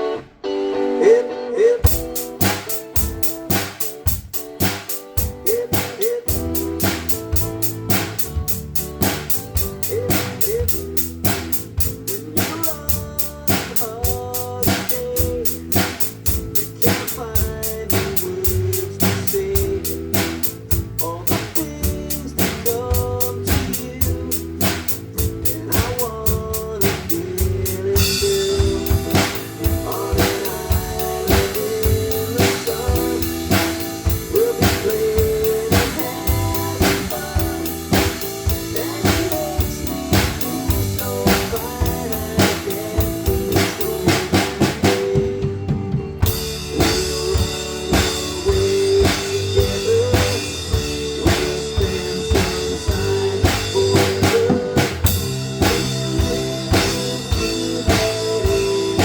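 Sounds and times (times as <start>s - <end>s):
recorded pop-rock song: 0.0s - 59.0s
drum kit beat: 1.8s - 59.0s.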